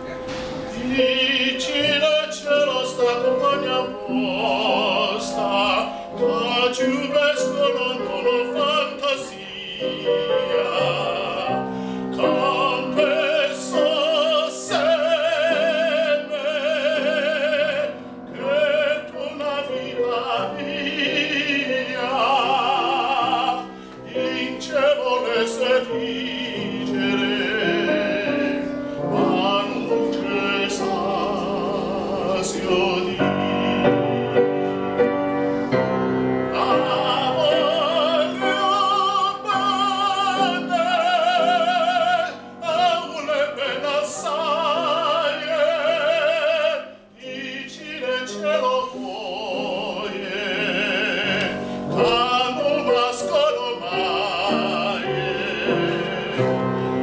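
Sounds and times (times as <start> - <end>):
grand piano: 0.0 - 57.0
man singing opera: 0.6 - 57.0.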